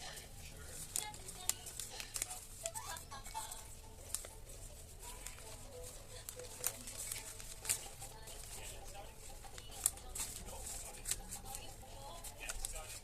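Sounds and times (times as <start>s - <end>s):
faint background voices: 0.0s - 13.0s
handling clicks and crackles: 0.7s - 4.4s, 5.0s - 13.0s.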